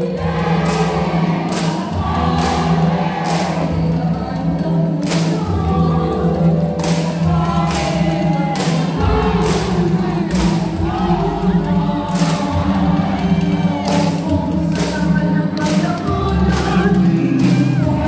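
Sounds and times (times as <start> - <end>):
choir singing: 0.0 - 15.2
dance music: 0.0 - 18.0
low bass: 0.0 - 18.0.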